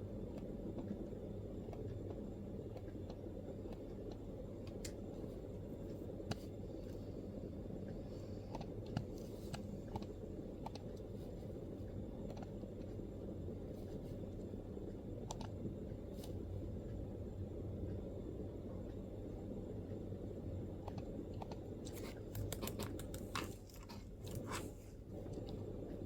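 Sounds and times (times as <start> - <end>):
low room rumble: 0.0 - 26.0.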